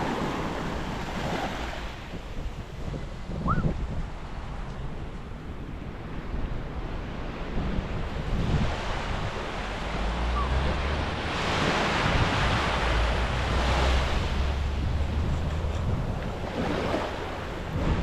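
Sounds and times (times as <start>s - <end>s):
surf washing onto beach: 0.0s - 18.0s
wind rumbling on microphone: 0.0s - 18.0s.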